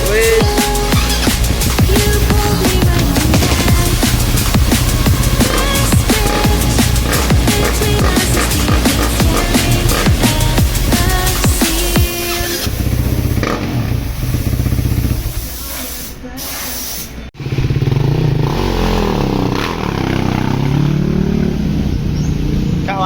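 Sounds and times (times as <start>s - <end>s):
motorcycle engine revving: 0.0s - 15.4s, 17.4s - 23.0s.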